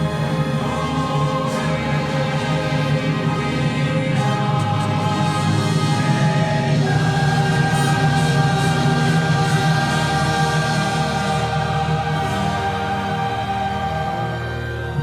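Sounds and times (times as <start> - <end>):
choir and orchestra: 0.0 - 15.0.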